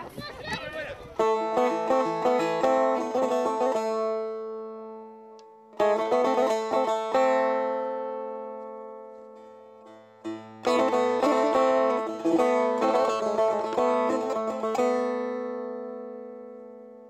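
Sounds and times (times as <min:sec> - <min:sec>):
plucked string instrument: 0:01.2 - 0:17.0.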